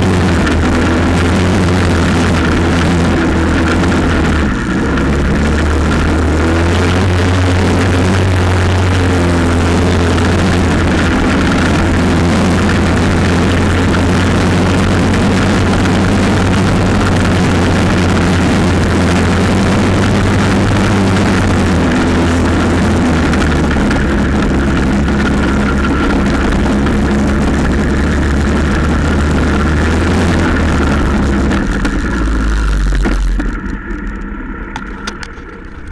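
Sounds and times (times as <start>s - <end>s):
quad bike engines running: 0.0s - 35.9s.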